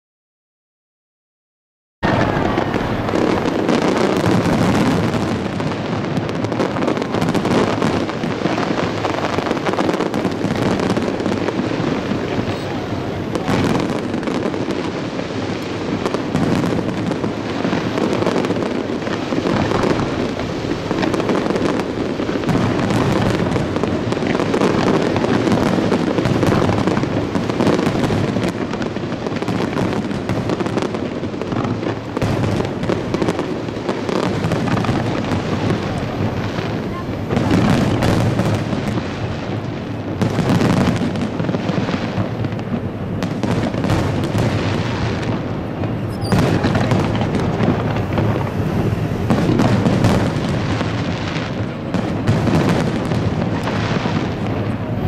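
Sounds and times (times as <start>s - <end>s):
firework shells bursting: 2.0s - 55.0s.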